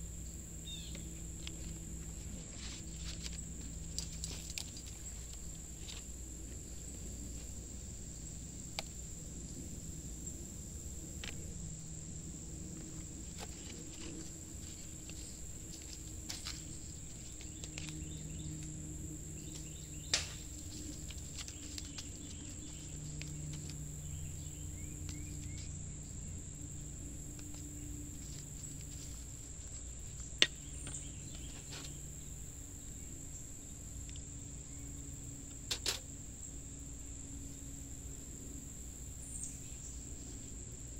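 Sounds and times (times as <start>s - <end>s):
insects chirring: 0.0s - 40.9s
low background hum: 0.0s - 40.9s.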